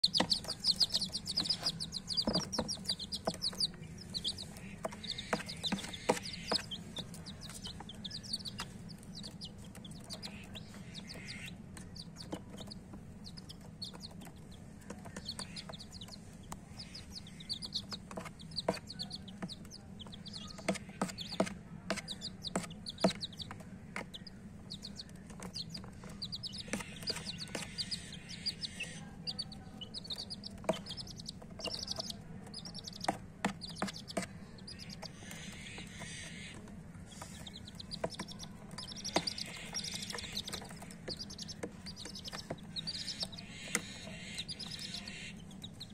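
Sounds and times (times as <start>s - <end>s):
chicks peeping: 0.0s - 45.9s
steady low hum: 0.0s - 45.9s.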